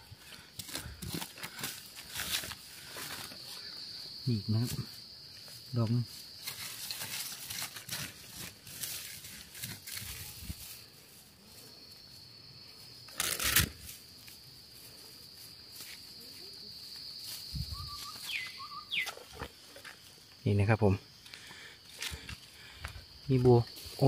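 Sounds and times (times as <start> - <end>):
high insect drone: 0.0 - 24.0
rustling in soil and leaves: 0.0 - 24.0.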